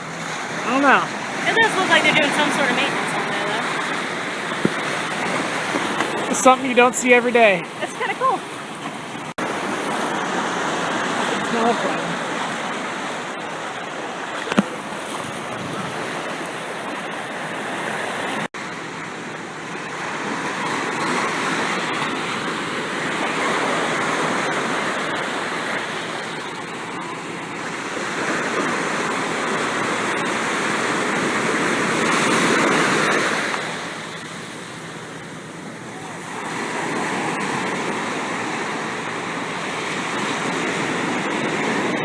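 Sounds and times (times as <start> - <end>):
ocean surf breaking on beach: 0.0 - 42.0.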